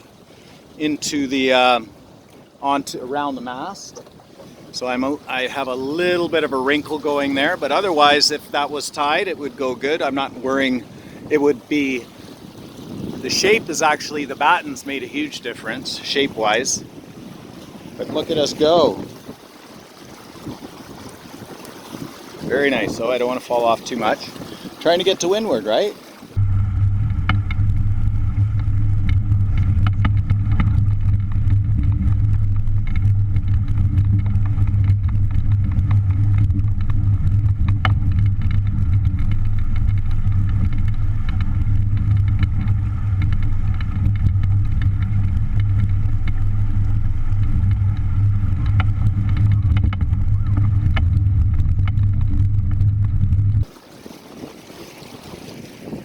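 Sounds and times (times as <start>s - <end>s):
wind buffeting microphone: 2.8s - 56.0s.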